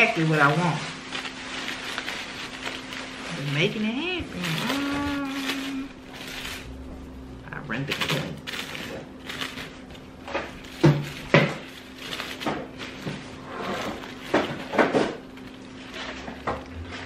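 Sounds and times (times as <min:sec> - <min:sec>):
paper handling noises: 0:00.0 - 0:06.8, 0:07.6 - 0:17.0
tissue paper rustling: 0:00.0 - 0:06.8, 0:07.9 - 0:17.0.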